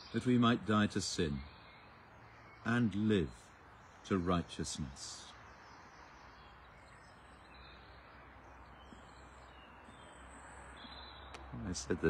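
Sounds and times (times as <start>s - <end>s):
background hiss: 0.0s - 12.0s
faint high bird calls: 0.0s - 12.0s.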